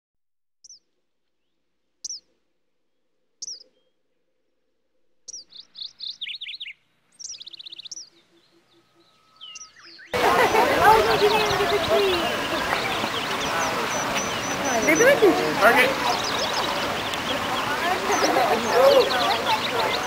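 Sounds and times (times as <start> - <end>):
songbird chirping and trilling: 0.6 - 2.3, 2.9 - 4.5, 5.2 - 20.0.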